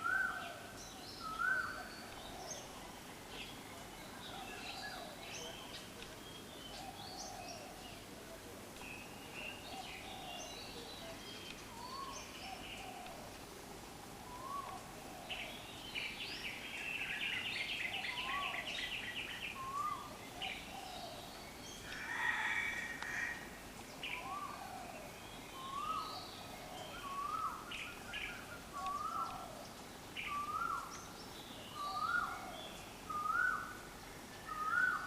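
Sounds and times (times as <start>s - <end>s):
birds chirping: 0.0s - 8.1s, 8.8s - 13.4s, 14.1s - 35.0s
outdoor ambience: 0.0s - 35.0s.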